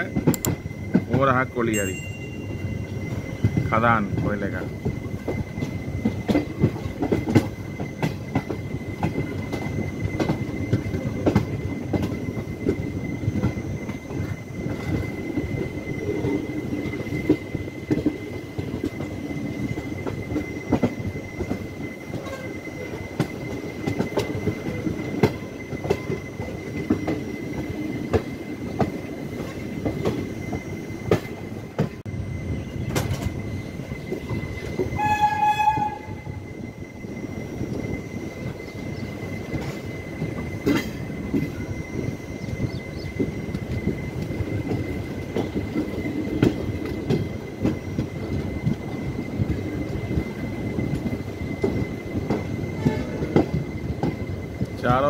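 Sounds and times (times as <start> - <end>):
train wheels clattering: 0.0 - 32.1, 37.4 - 55.0.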